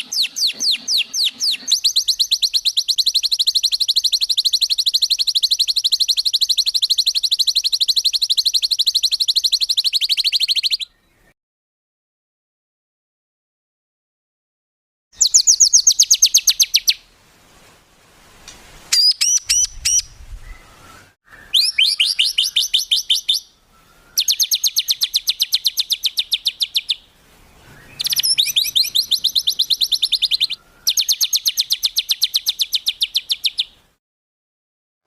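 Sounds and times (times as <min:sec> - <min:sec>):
songbird singing rapid trills: 0:00.0 - 0:11.3, 0:15.2 - 0:17.0, 0:18.9 - 0:33.8.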